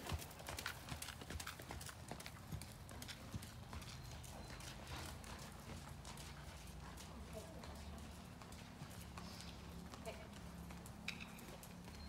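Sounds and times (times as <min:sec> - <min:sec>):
horse hoofbeats trotting on dirt: 0:00.0 - 0:12.0.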